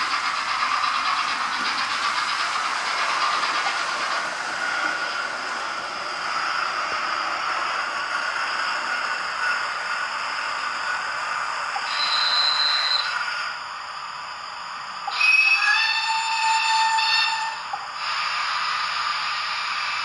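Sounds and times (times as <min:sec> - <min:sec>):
high squeal of train: 0:00.0 - 0:20.0
train running: 0:00.0 - 0:20.0.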